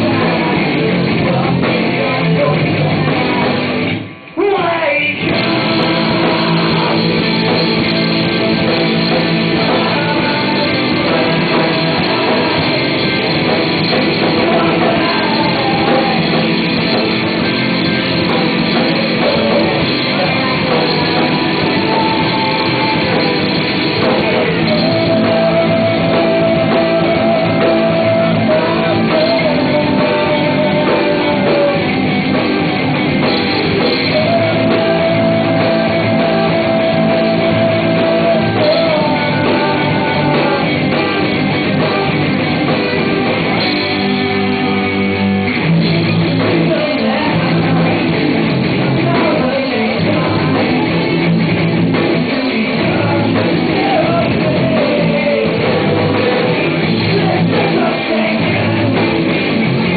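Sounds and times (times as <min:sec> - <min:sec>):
live rock band playing loud: 0:00.0 - 0:59.9.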